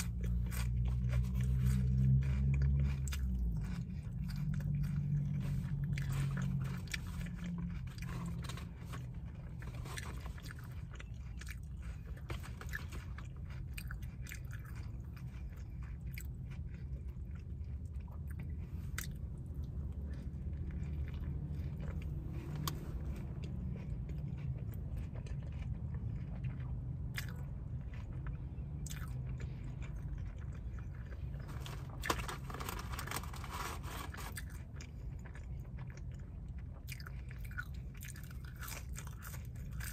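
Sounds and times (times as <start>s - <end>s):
chewing with wet mouth clicks: 0.0s - 32.3s, 34.3s - 39.9s.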